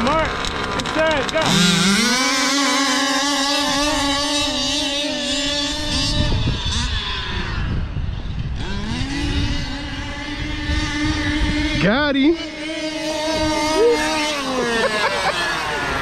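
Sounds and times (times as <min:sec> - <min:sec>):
rc truck engines buzzing: 0:00.0 - 0:16.0.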